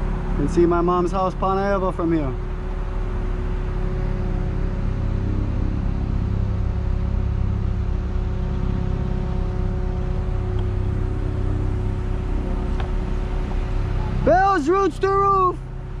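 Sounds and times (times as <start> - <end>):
faint steady whine: 0.0 - 16.0
truck engine rumbling: 0.0 - 16.0.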